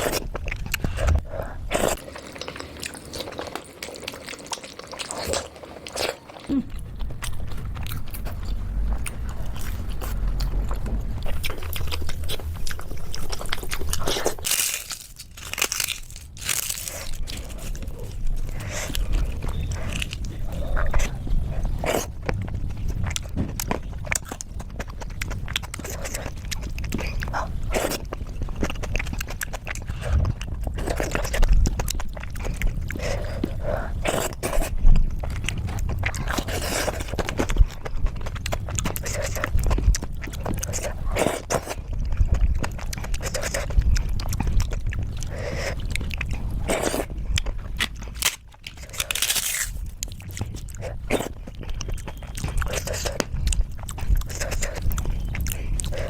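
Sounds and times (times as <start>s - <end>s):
wet chewing and mouth smacks: 0.0s - 56.0s.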